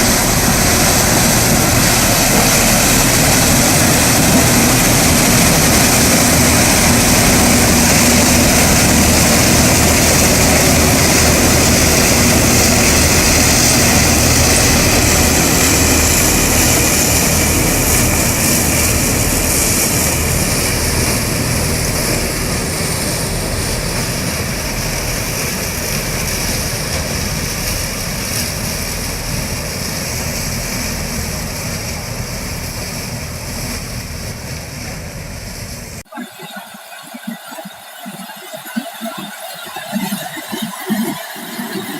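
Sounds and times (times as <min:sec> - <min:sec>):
harvester engine droning: 0:00.0 - 0:36.0.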